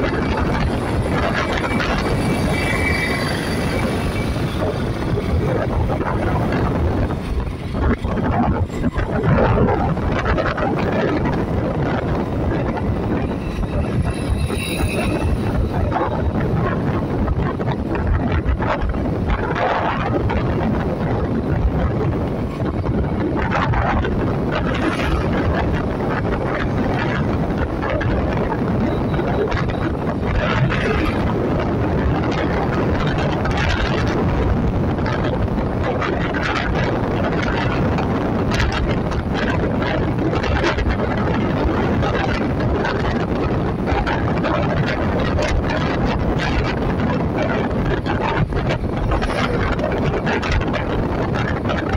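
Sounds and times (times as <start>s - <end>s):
engine and tyre rumble: 0.0s - 51.9s
wind buffeting microphone: 0.0s - 51.9s.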